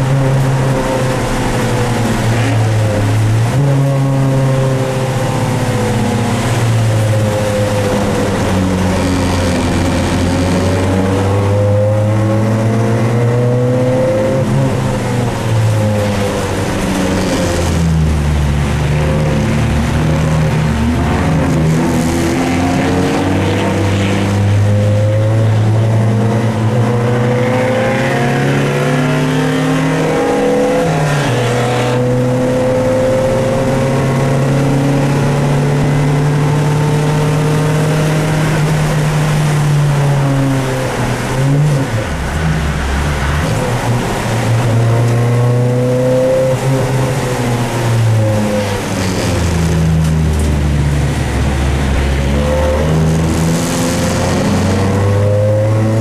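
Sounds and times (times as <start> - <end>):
race car engine from inside cabin: 0.0 - 56.0.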